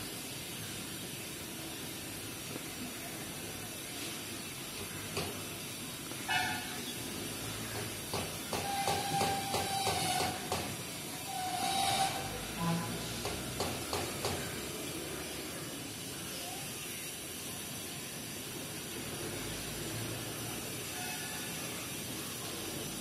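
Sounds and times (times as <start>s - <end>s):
outdoor ambience hiss: 0.0s - 23.0s.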